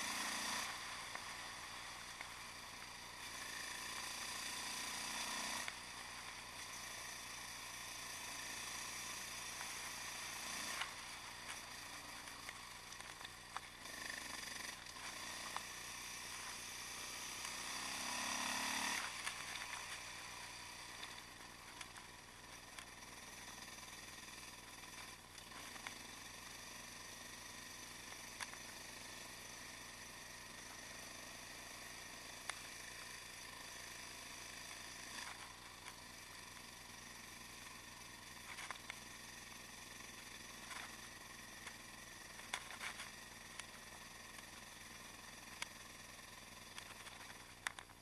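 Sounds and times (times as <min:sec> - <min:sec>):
motorcycle engine cruising: 0:00.0 - 0:48.0.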